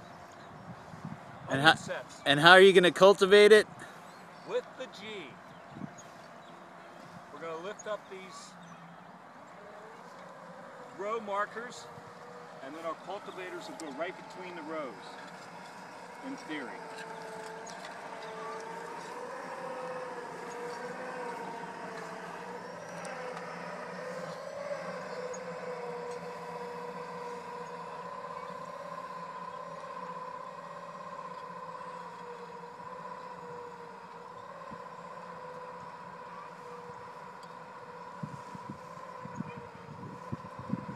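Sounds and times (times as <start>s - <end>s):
electric motor whine: 0.0s - 40.9s.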